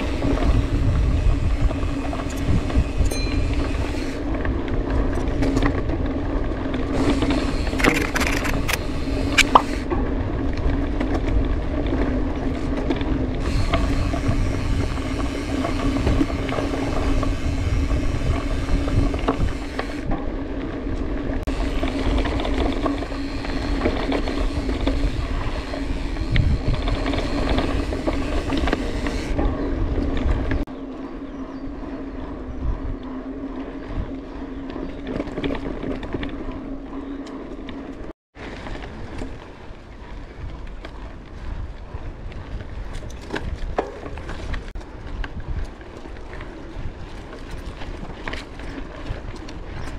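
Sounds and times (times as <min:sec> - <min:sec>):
bike rattles and clicks: 0:00.0 - 0:49.9
bike tyres rolling: 0:00.0 - 0:49.9
wind rumble: 0:00.0 - 0:49.9.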